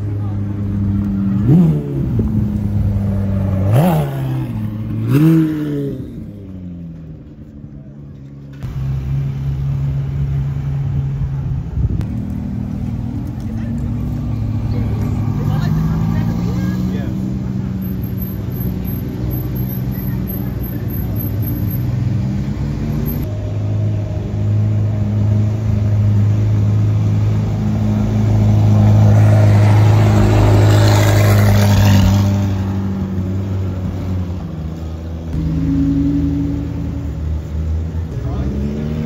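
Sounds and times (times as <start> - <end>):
car engine droning: 0.0 - 39.0.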